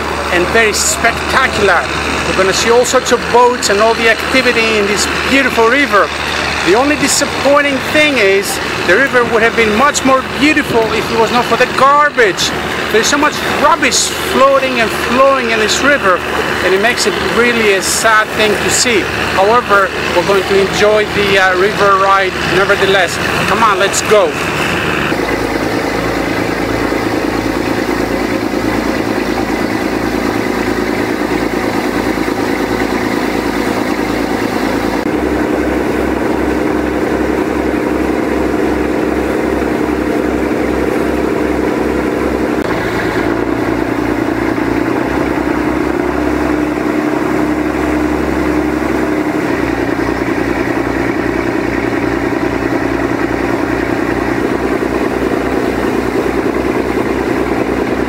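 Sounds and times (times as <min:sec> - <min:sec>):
motorboat engine running: 0:00.0 - 0:58.0
water churning: 0:00.0 - 0:58.0.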